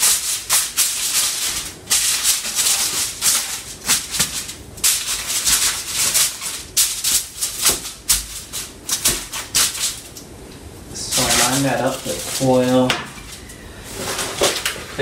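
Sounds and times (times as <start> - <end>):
aluminium foil crinkling: 0.0 - 10.3, 11.0 - 15.0.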